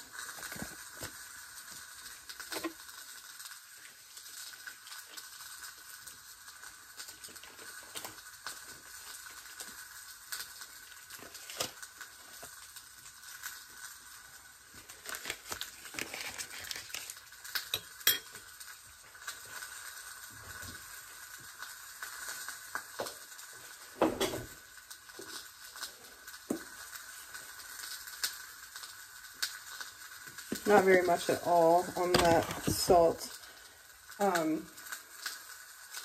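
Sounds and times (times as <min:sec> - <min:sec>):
faint sizzle: 0:00.0 - 0:36.0.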